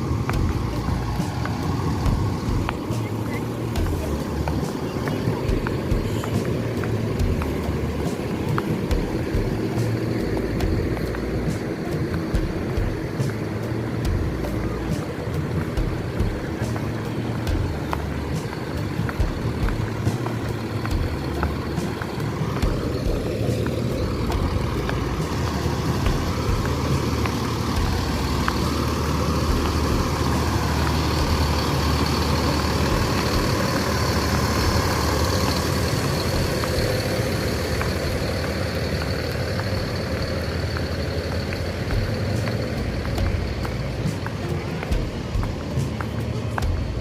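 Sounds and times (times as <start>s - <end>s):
bus diesel engines running: 0.0s - 47.0s.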